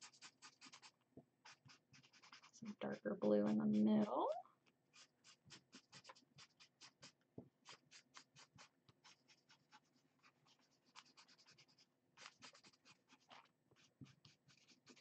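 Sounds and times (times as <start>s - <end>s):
marker drawing on paper: 0.0s - 15.0s.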